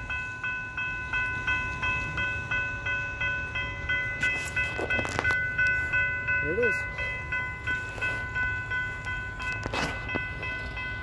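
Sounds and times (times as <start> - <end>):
crossing warning bell ringing: 0.0 - 11.0
train rumbling: 0.0 - 11.0.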